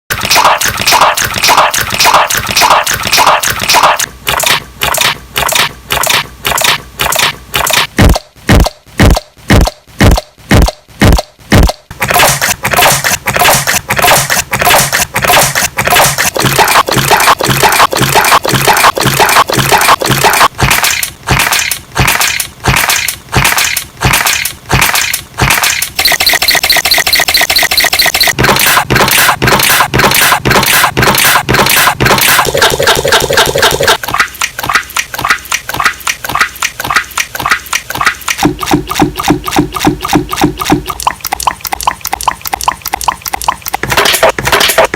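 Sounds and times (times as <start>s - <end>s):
slime clicking and popping: 0.2s - 44.9s.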